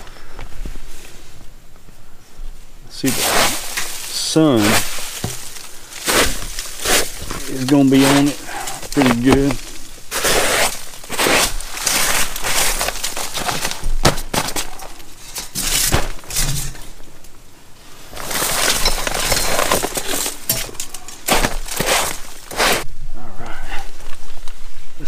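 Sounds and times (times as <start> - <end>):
rustling and crackling with snaps: 0.0 - 22.9.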